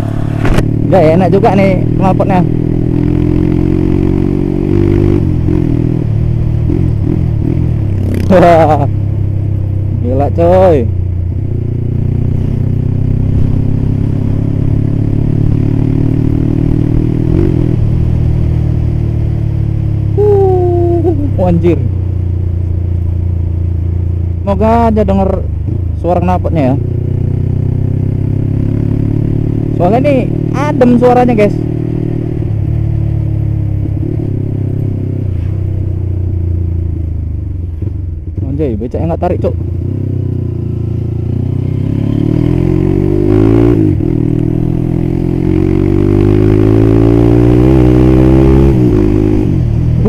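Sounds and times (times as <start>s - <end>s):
motorcycle engine cruising: 0.0s - 50.0s.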